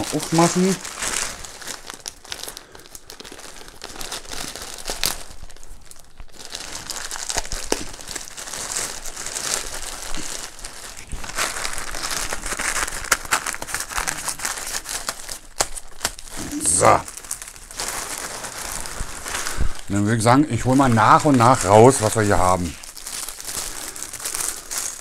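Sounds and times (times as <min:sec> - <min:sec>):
plastic bag crinkling and tearing: 0:00.0 - 0:25.0.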